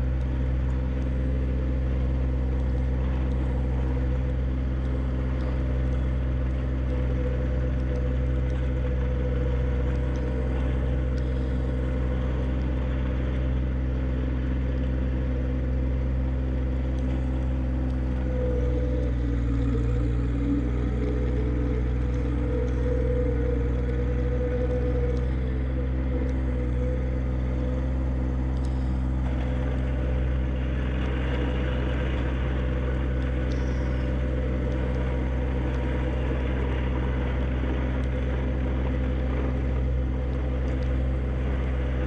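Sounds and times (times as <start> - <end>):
tractor diesel engine running: 0.0 - 42.0
wavering whine: 0.0 - 42.0.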